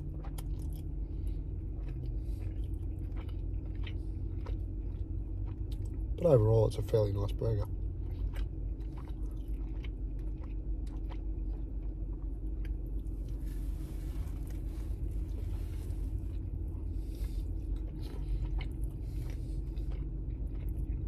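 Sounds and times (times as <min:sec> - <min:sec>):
person chewing: 0:00.0 - 0:06.3, 0:07.3 - 0:21.0
car cabin hum: 0:00.0 - 0:21.0.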